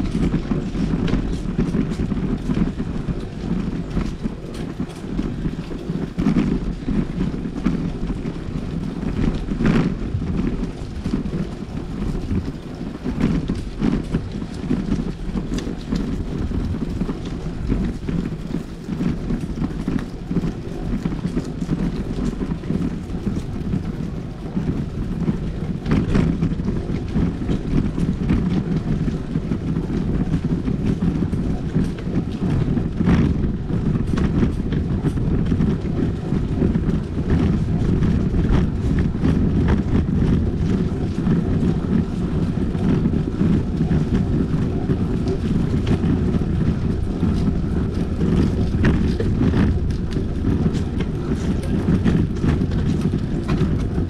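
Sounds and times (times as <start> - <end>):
bicycle tyre noise: 0.0 - 54.0
wind on microphone: 0.0 - 54.0.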